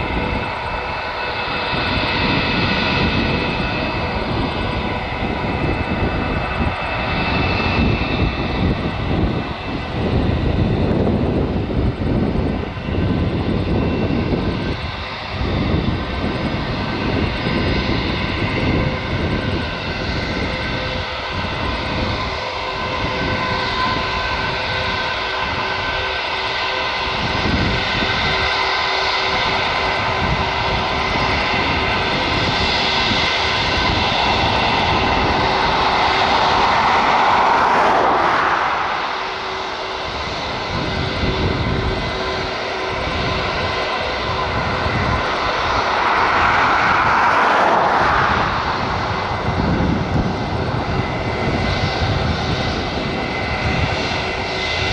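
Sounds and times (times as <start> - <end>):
airliner engines whining: 0.0 - 54.9
wind rumbling on microphone: 0.0 - 54.9.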